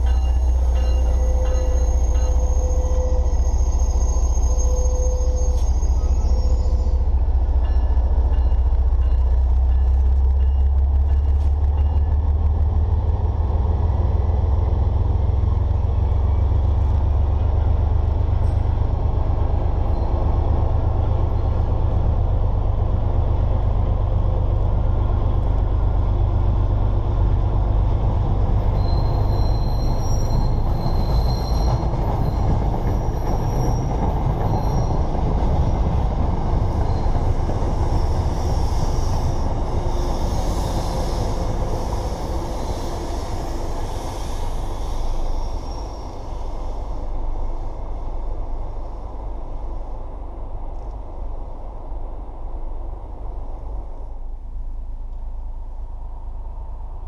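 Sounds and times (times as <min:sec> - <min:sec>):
train passing close by: 0:00.0 - 0:57.0.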